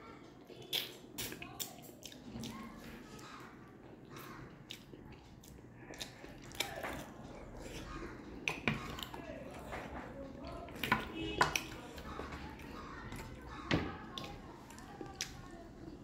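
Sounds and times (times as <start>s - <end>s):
chewing and lip smacks: 0.4s - 16.0s.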